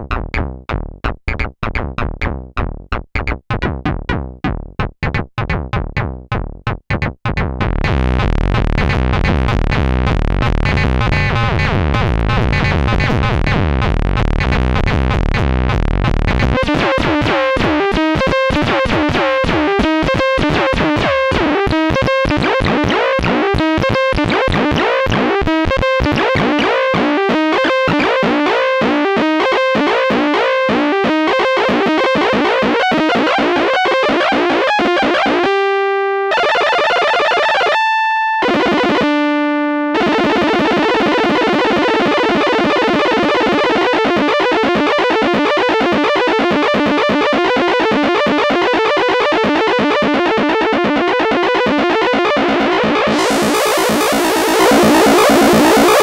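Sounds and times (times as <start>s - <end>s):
clangorous modular synthesizer: 0.0s - 35.7s, 39.9s - 44.8s, 51.0s - 56.0s.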